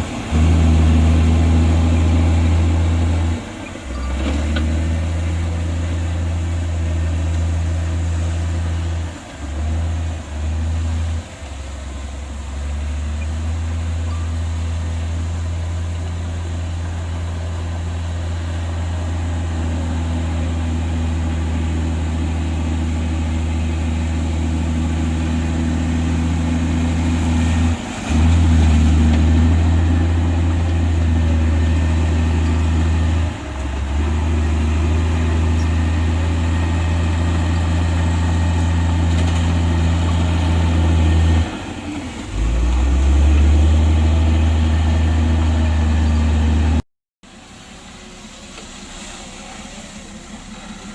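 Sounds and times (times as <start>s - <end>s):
bulldozer diesel engine under load: 0.0s - 50.9s.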